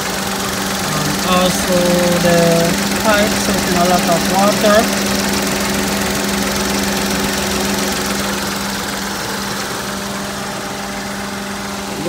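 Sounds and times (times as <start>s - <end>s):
air conditioning compressor cycling: 0.0s - 12.0s
car engine idling: 0.0s - 12.0s.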